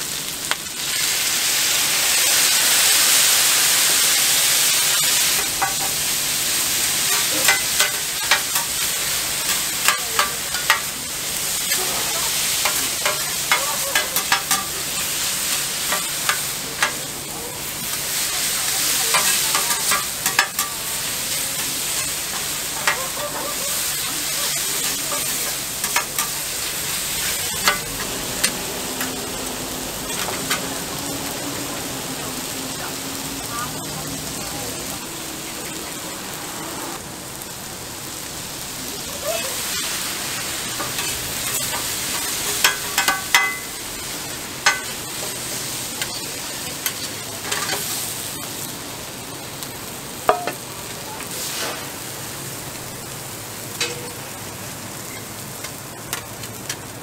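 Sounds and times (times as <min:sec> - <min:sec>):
food sizzling on a griddle: 0:00.0 - 0:57.0
water steaming on hot plate: 0:00.0 - 0:57.0.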